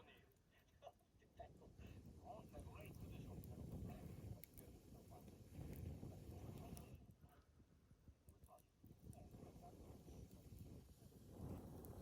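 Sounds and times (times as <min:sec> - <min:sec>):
faint campfire crackling: 0:00.0 - 0:12.0.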